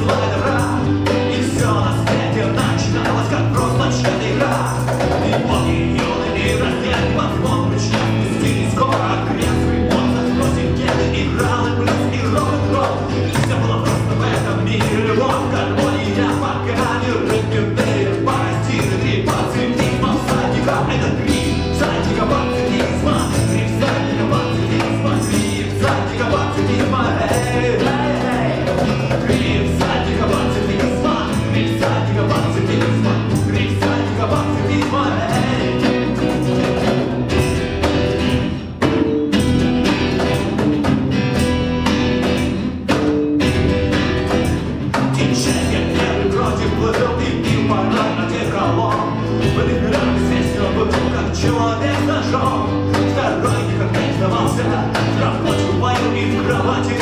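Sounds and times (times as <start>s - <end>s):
acoustic band playing: 0.0s - 57.0s.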